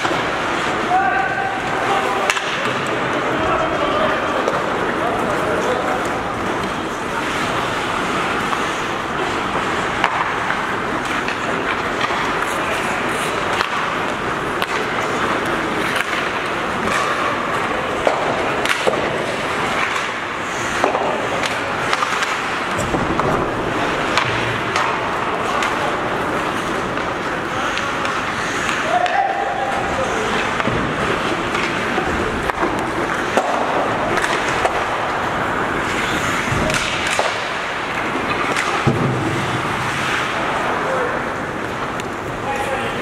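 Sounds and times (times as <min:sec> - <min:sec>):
hockey sticks and puck clacking: 0:00.0 - 0:43.0
skate blades scraping ice: 0:04.3 - 0:42.8.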